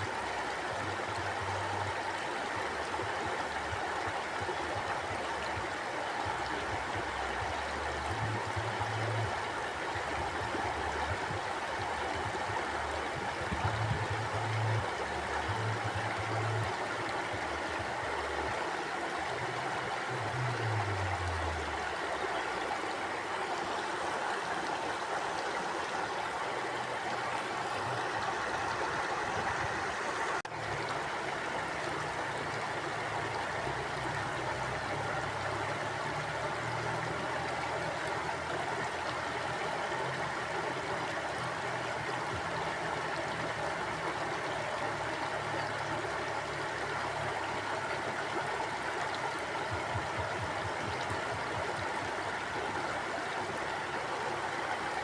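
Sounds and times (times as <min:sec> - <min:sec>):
river rushing water: 0:00.0 - 0:55.0.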